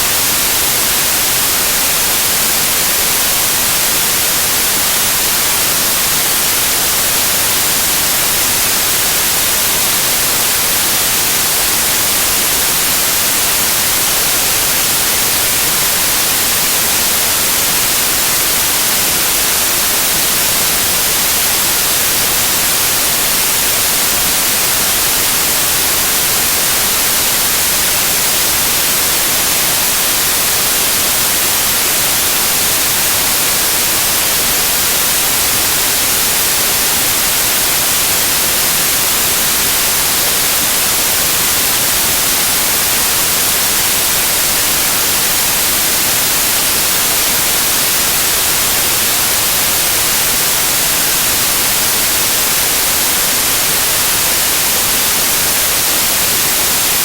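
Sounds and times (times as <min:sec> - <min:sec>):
loud white noise hiss: 0:00.0 - 0:57.0.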